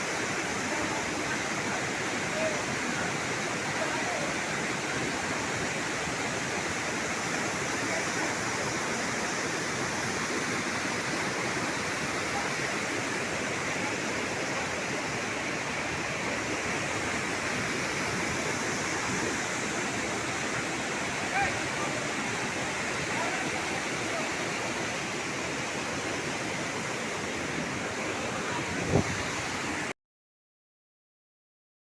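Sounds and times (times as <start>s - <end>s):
waterfall roaring: 0.0s - 29.9s.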